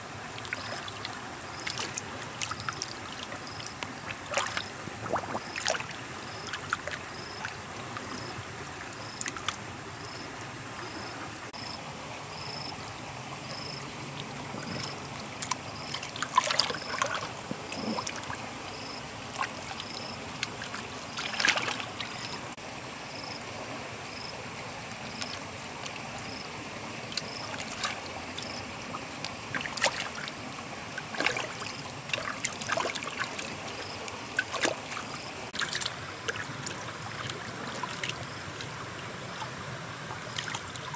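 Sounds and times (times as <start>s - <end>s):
muddy water splashing: 0.0s - 10.2s, 13.5s - 22.6s, 24.9s - 40.9s
trickle of flowing water: 0.0s - 40.9s.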